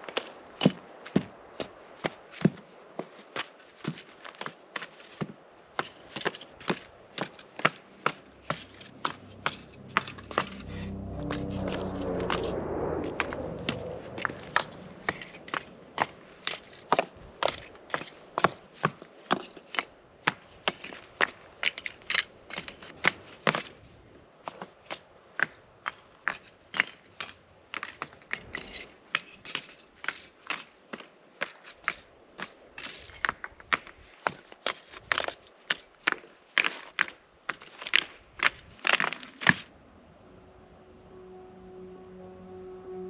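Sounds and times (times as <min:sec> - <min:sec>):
rocks clacking and scraping: 0:00.0 - 0:10.6, 0:14.6 - 0:23.8, 0:24.4 - 0:39.7.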